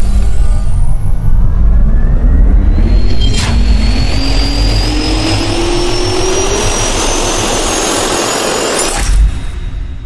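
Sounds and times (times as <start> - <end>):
jet engine whine rising: 0.0 - 10.0.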